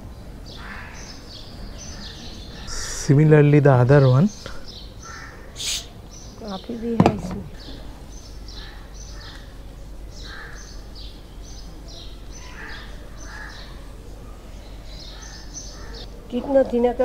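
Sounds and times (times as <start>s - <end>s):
low steady hum: 0.0s - 17.0s
small birds chirping: 0.0s - 17.0s.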